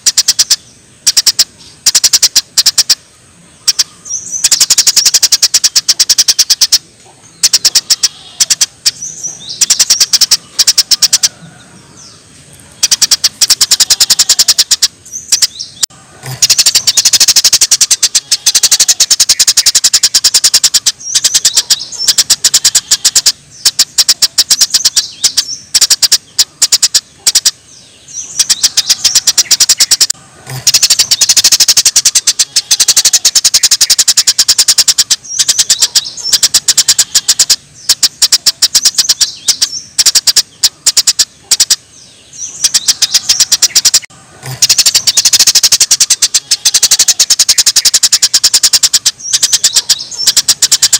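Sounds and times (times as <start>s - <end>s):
songbird rapid high notes: 0.0s - 11.4s, 12.7s - 50.9s.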